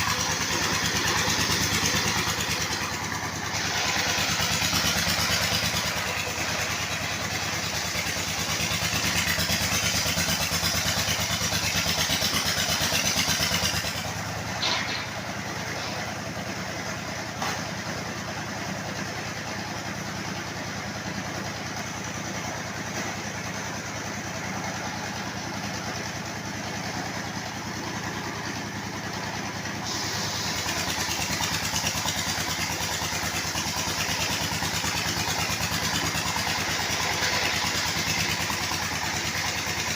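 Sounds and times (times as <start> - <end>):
circular sawmill running: 0.0 - 39.9.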